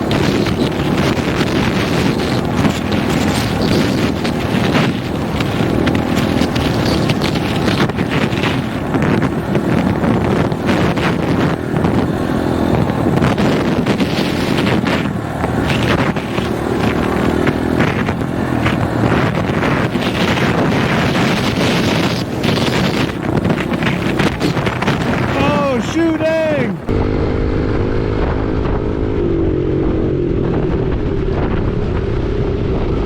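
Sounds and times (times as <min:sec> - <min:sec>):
dirt bike engine running: 0:00.0 - 0:33.0
wind buffeting microphone: 0:00.0 - 0:33.0.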